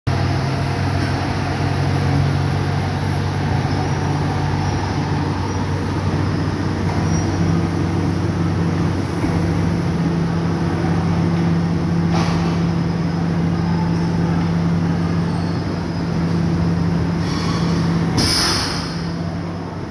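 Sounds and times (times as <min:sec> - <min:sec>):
diesel engine running: 0:00.1 - 0:19.9.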